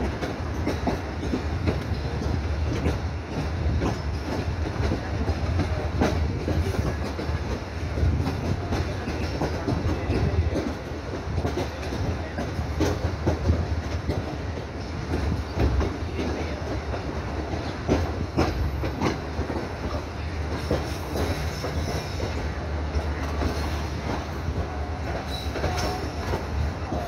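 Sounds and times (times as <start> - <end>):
train running gear rumble: 0.0 - 27.0.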